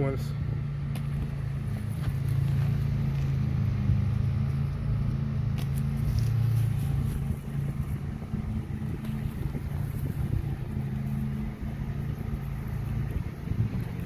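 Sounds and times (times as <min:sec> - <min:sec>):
motor humming: 0:00.4 - 0:14.0.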